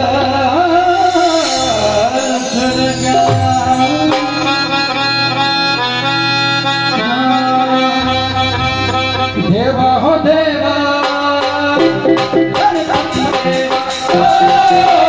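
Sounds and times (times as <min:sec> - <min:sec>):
person singing: 0:00.0 - 0:05.7, 0:06.9 - 0:15.0
electronic keyboard melody: 0:00.6 - 0:15.0.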